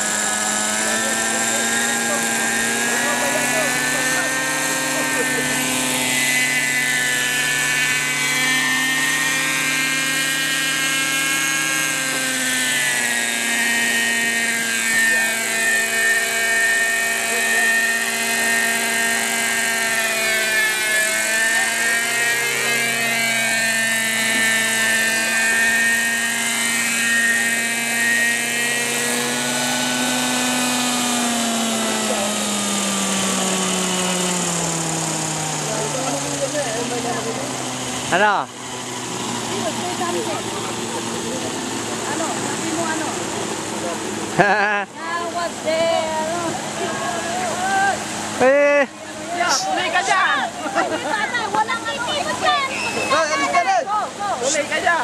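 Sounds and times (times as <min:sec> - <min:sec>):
model helicopter engine whine: 0:00.0 - 0:55.0.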